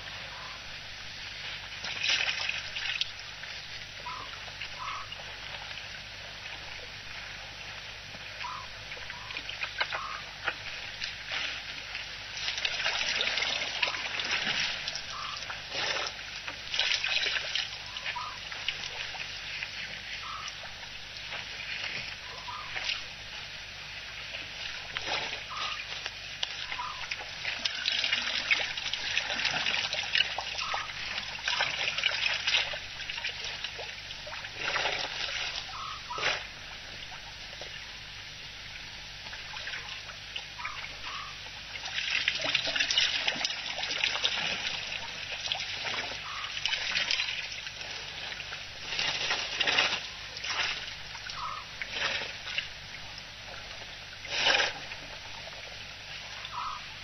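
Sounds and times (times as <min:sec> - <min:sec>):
faint low hum: 0:00.0 - 0:57.0
elephants splashing water: 0:01.8 - 0:03.2, 0:08.4 - 0:23.1, 0:24.3 - 0:37.1, 0:39.4 - 0:56.8.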